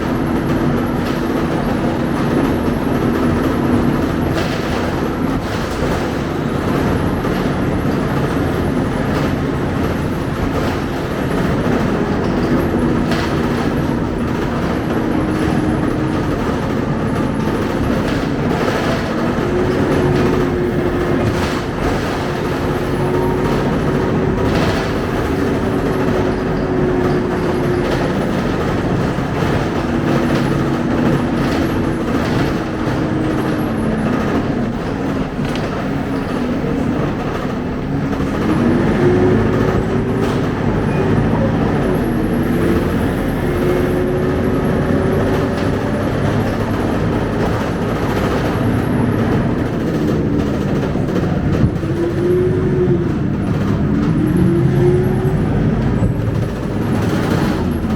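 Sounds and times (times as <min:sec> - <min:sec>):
bus diesel engine hum: 0:00.0 - 0:57.9
road noise rumble: 0:00.0 - 0:57.9.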